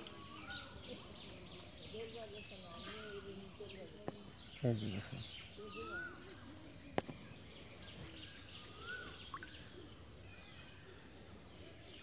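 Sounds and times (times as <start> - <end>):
birds calling and chirping: 0.0 - 12.0.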